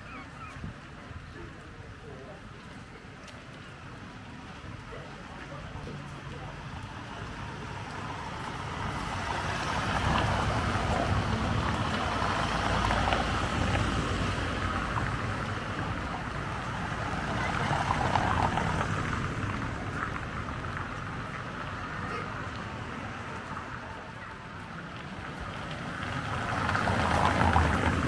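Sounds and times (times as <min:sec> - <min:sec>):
passing traffic: 0:00.0 - 0:28.0.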